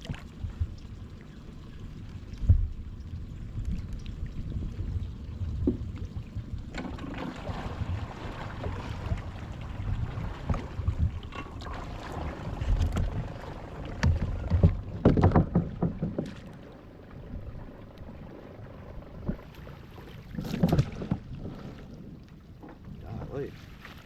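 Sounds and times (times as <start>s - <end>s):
knocks and clatter in boat: 0.0s - 1.0s, 2.2s - 24.0s
wind rumble on microphone: 0.0s - 24.0s.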